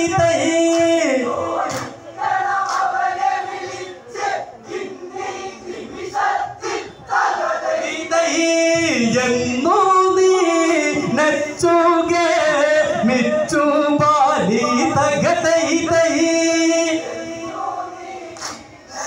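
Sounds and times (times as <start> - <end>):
men singing together: 0.0 - 4.5, 5.2 - 19.0.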